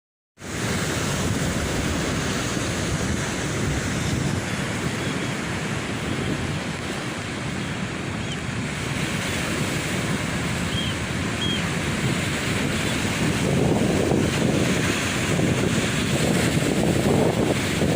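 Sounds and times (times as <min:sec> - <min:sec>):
surf washing onto beach: 0:00.4 - 0:17.9
wind buffeting microphone: 0:00.5 - 0:17.9.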